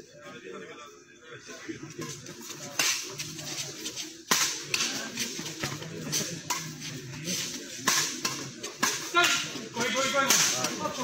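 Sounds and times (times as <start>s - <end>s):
rackets hitting shuttlecock: 2.1s - 11.0s.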